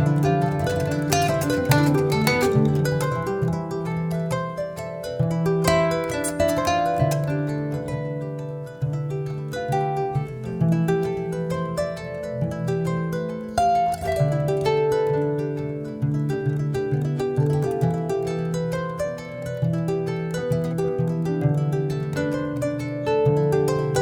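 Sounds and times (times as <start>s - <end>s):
plucked harp-like notes: 0.0s - 24.0s.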